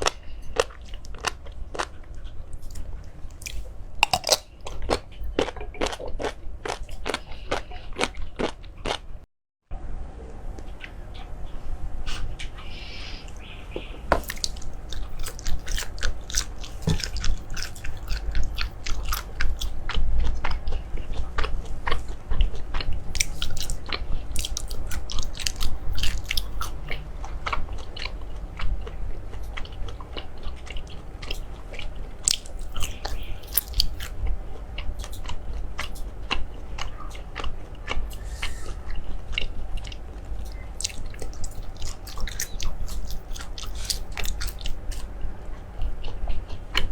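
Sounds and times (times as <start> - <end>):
chewing crisp food crunches: 0.0 - 9.0, 14.2 - 38.2, 38.8 - 46.9.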